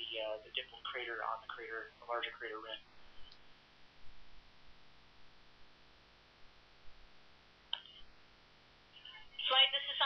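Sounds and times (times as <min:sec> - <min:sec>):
faint hiss and low hum: 0:00.0 - 0:10.0.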